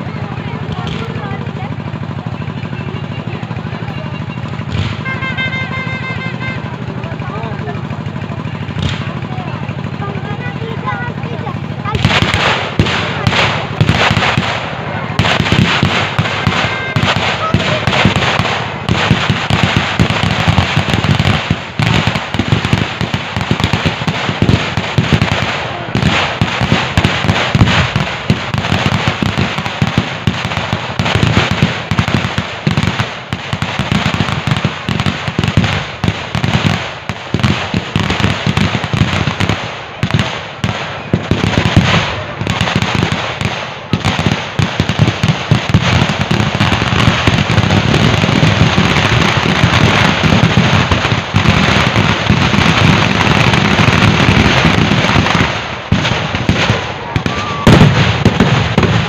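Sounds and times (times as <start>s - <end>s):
firecrackers crackling barrage: 0.0s - 59.0s.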